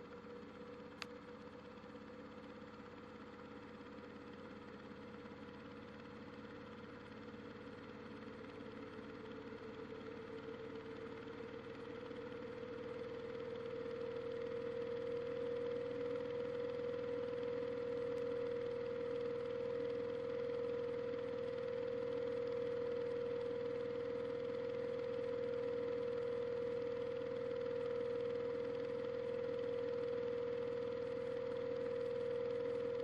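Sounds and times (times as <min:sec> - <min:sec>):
washing machine motor whine: 0:01.8 - 0:33.0.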